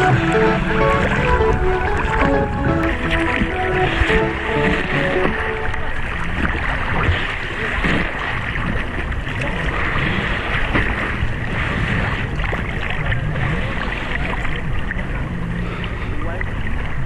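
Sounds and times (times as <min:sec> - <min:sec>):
sea water sloshing and lapping: 0:00.0 - 0:17.0.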